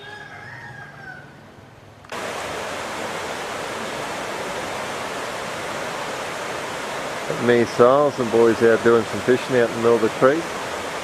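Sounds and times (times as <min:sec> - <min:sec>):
river water rushing: 0:02.1 - 0:11.0.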